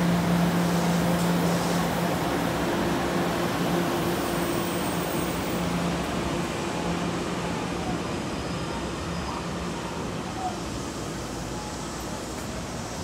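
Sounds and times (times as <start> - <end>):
electric train humming: 0.0 - 13.0
train wheels running on rails: 0.0 - 13.0.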